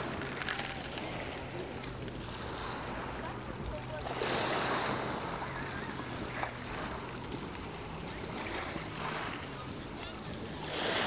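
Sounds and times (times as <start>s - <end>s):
waves washing onto pebble beach: 0.0s - 9.6s, 10.5s - 11.0s.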